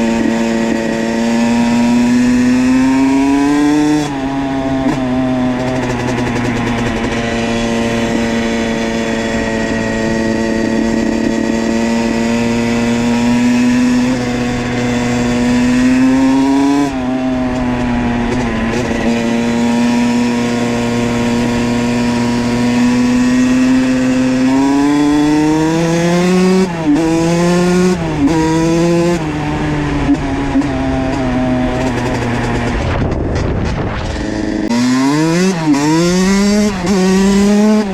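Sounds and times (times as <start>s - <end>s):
two-stroke engine revving: 0.0s - 37.9s.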